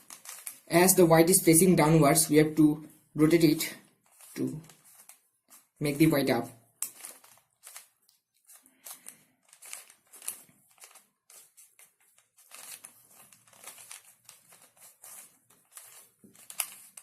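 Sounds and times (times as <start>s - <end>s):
rubik's cube clicking and scraping: 0.0s - 17.0s.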